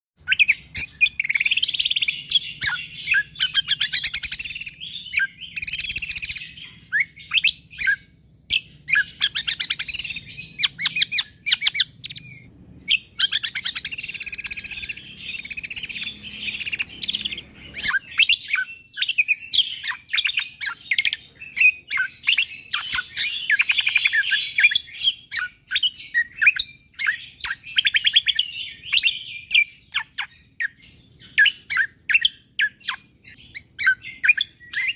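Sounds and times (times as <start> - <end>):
songbird chattering song: 0.2 - 34.9.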